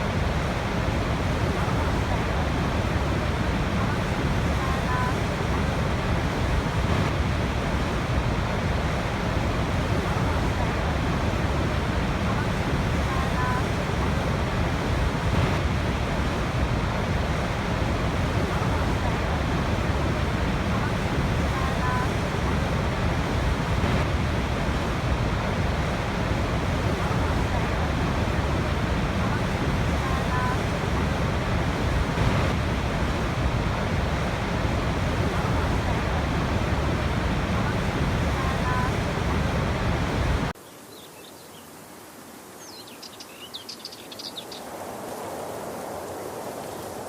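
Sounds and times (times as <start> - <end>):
waterfall rushing: 0.0 - 40.6.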